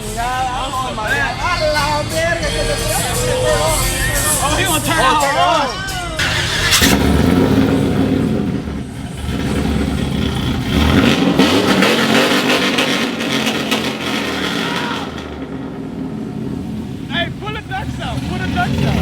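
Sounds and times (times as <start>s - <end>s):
truck engine revving: 0.0s - 19.0s
truck engine starting: 0.0s - 19.0s.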